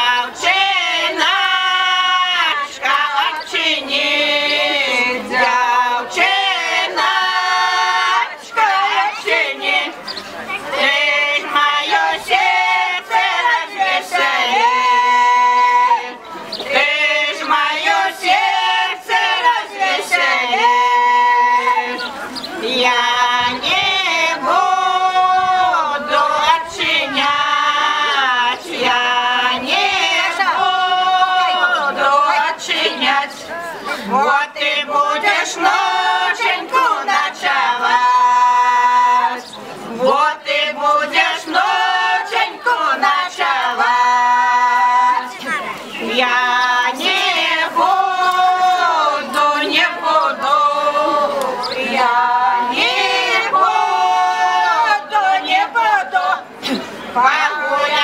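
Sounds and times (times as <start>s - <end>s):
women's choir singing unaccompanied: 0.0s - 58.0s.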